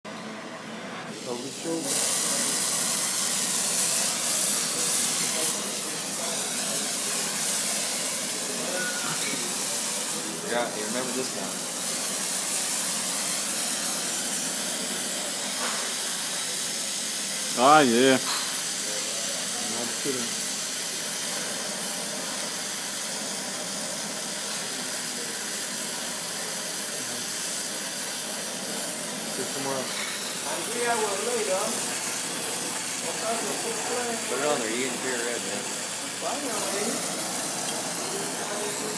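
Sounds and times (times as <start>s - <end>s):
torch flame hissing: 1.0s - 38.9s.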